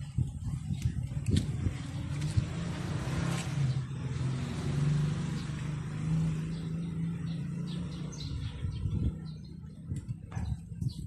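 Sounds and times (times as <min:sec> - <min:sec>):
vehicle engine droning: 0:00.4 - 0:10.4.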